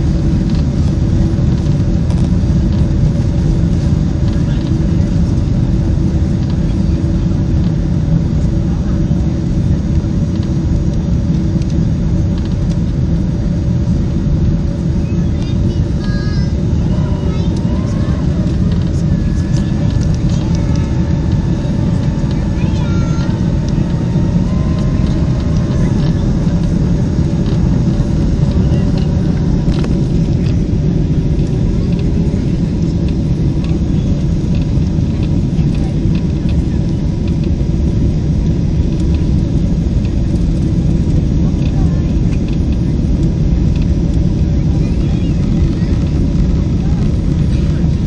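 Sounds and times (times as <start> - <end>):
airplane cabin engine rumble: 0.0 - 48.0
steady hums: 0.0 - 48.0.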